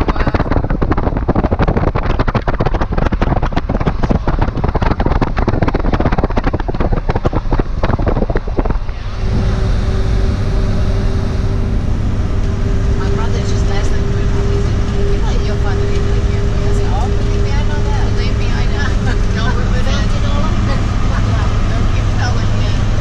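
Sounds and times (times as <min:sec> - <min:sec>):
vehicle cabin drone: 0:00.0 - 0:23.0
vehicle road noise: 0:00.0 - 0:23.0
wind buffeting microphone: 0:00.0 - 0:23.0.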